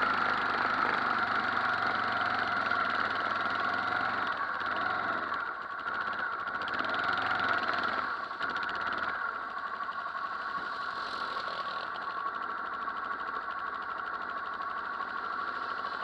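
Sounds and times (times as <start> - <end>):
quad bike engine humming: 0.0 - 16.0
quad bike passing: 0.0 - 16.0.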